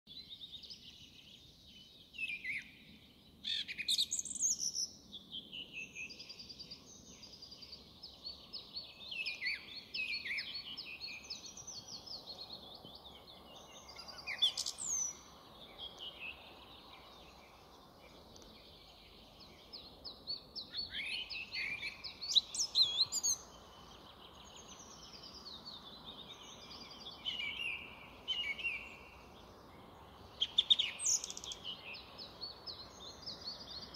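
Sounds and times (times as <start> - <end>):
song thrush singing: 0.1 - 33.9.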